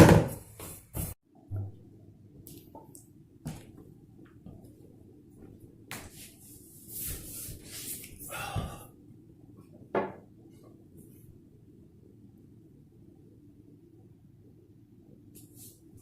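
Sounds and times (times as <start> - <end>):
low steady hum: 1.3 - 16.0.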